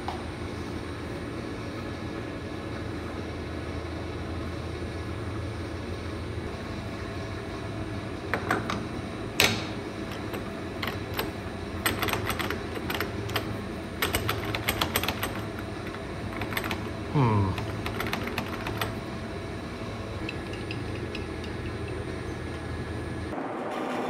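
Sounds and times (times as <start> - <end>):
steady low hum: 0.0 - 23.5.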